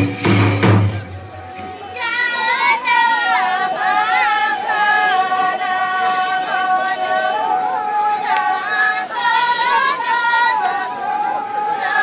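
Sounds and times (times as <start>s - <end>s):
women singing in unison: 1.6s - 12.0s.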